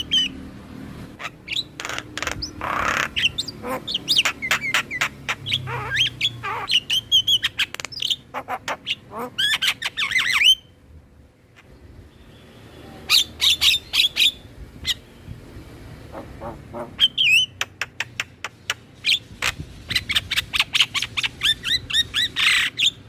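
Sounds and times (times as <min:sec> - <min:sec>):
starlings singing: 0:00.0 - 0:10.8, 0:11.6 - 0:15.5, 0:16.1 - 0:23.0.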